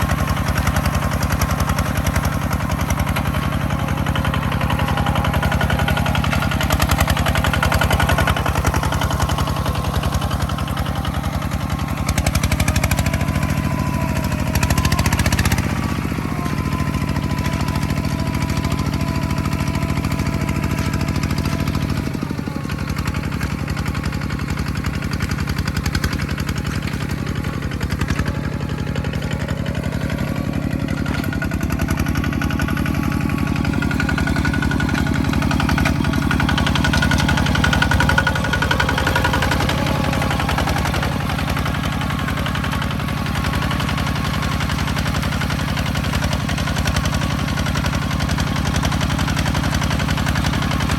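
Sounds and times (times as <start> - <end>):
farm machine engine running: 0.0 - 50.9.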